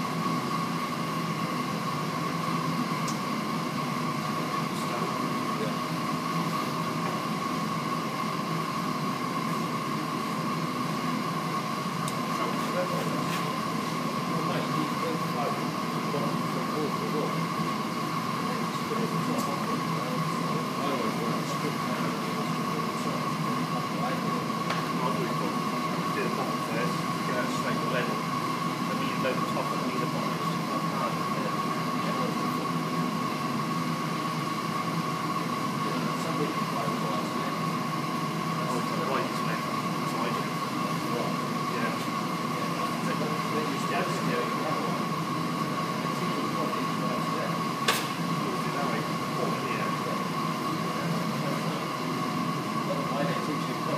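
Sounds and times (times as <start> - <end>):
machine hiss with mid-pitched whine: 0.0 - 53.9
mechanical hum: 0.0 - 53.9.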